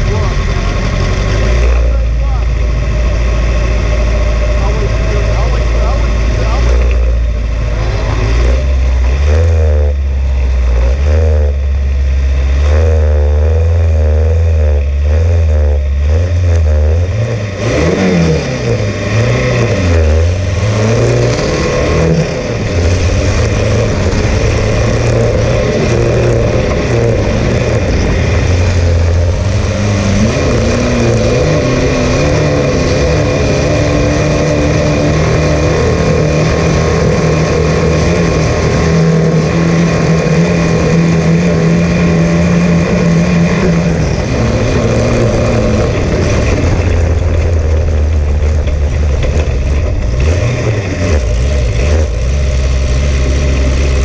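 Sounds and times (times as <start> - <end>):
sand rail engine revving: 0.0 - 54.0.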